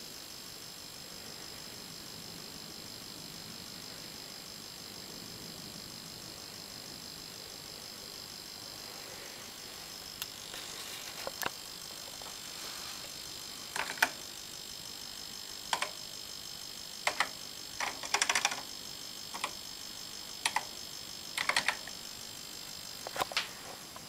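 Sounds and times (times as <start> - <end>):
faint high whine: 0.0 - 24.0.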